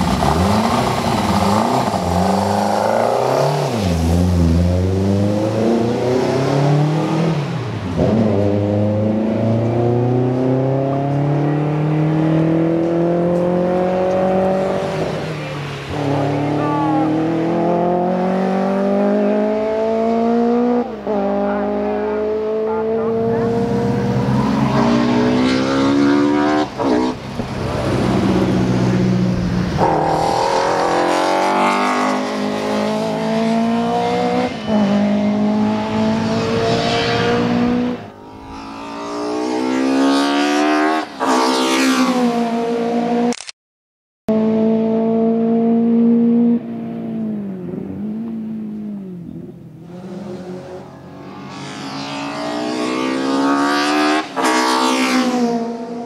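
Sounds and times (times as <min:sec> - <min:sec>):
race car engine accelerating hard: 0:00.0 - 0:43.3, 0:44.3 - 0:56.0.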